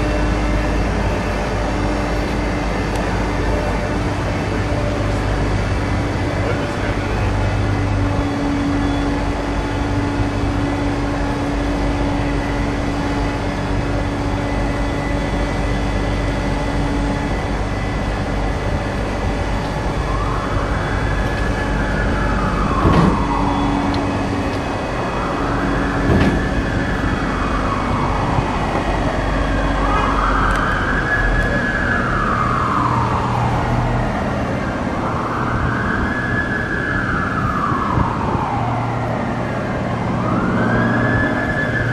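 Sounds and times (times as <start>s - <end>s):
emergency vehicle siren wailing: 0.0s - 41.9s.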